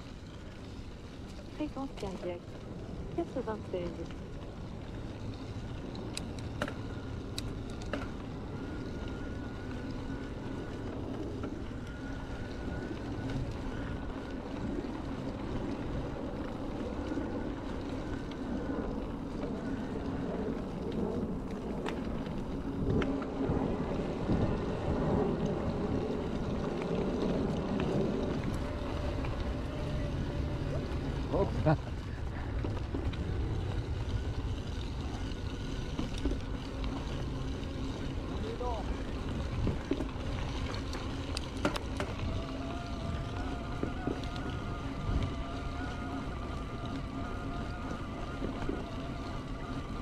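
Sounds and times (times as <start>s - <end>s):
faint thin whine: 0.0s - 50.0s
tyres rolling over a trail: 0.0s - 50.0s
wind buffeting microphone: 0.0s - 50.0s.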